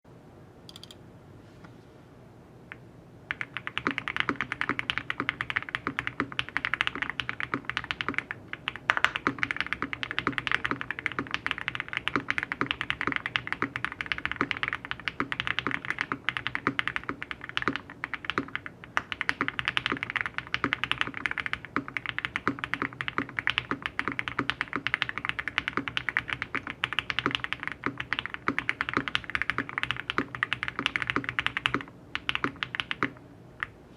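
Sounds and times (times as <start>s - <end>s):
faint background hum: 0.1s - 33.9s
fast typing on mechanical keyboard: 3.3s - 33.7s.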